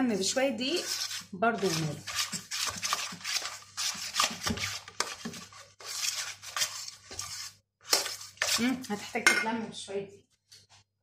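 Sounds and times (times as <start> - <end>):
spoon scraping dough in steel bowl: 0.0 - 9.8.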